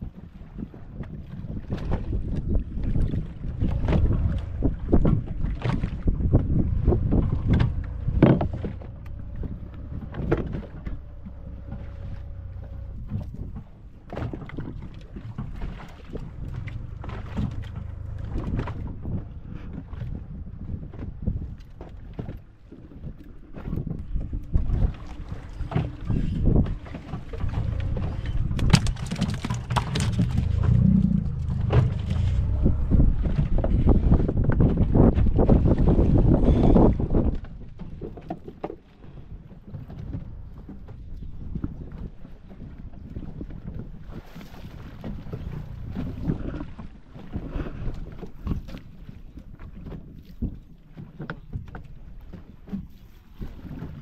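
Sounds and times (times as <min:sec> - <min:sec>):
water sloshing against hull: 0:00.0 - 0:54.0
wind buffeting microphone: 0:00.0 - 0:54.0.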